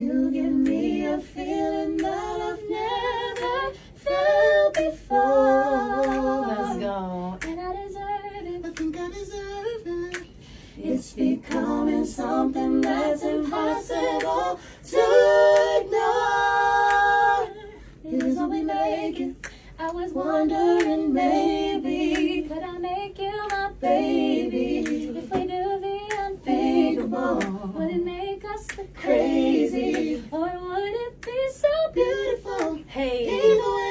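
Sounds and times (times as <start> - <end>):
voices singing in harmony: 0.0 - 33.9.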